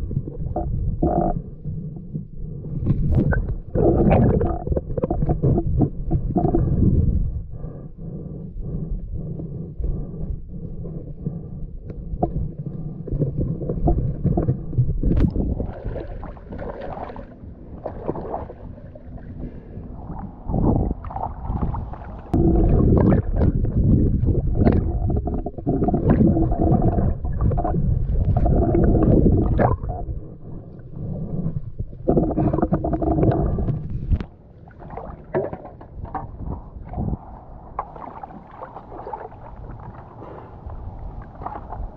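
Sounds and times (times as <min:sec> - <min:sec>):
underwater river rumbling and gurgling: 0:00.0 - 0:41.9.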